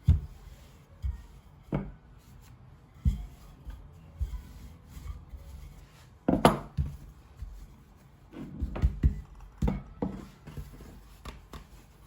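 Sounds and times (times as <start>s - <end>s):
dough knocks and thumps: 0.0s - 2.3s, 2.9s - 12.0s.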